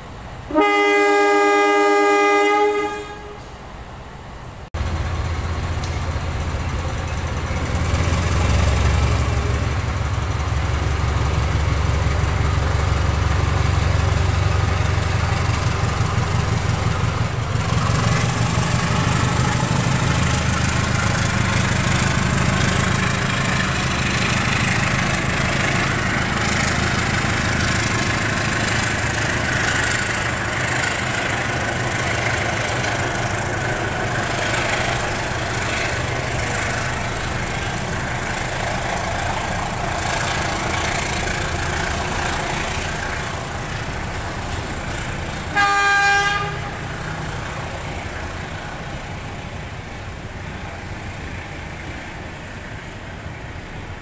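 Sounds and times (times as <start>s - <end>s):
locomotive engine humming: 0.0s - 54.0s
train wheels rolling on rails: 2.6s - 54.0s.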